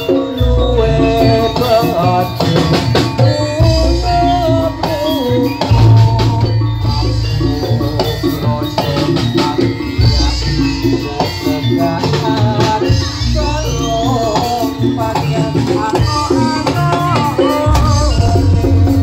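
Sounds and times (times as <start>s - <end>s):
drums and percussion beat: 0.0s - 19.0s
heavy bass: 0.0s - 19.0s
wavering melodic line: 0.0s - 19.0s.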